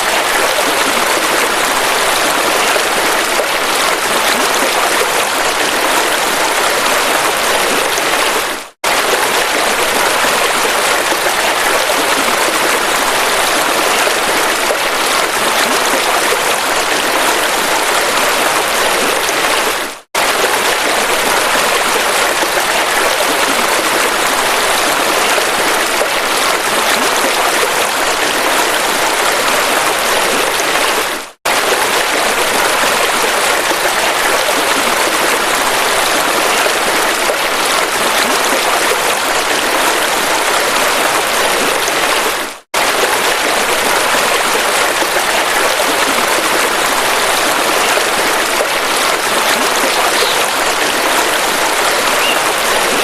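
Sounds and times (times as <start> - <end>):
river rushing: 0.0 - 53.0.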